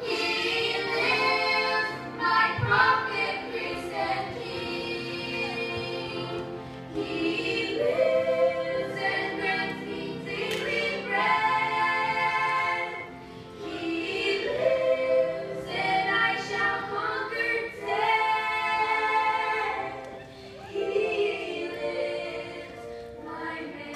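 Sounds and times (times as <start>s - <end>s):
women singing together: 0.0s - 23.9s.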